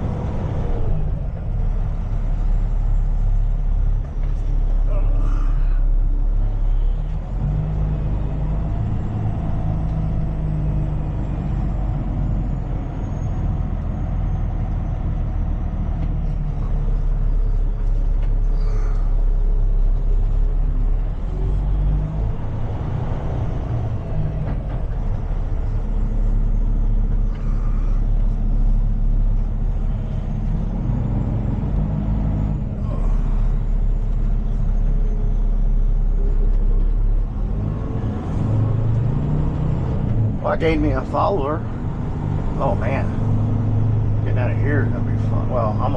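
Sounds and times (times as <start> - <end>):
truck engine revving under load: 0.0 - 45.9.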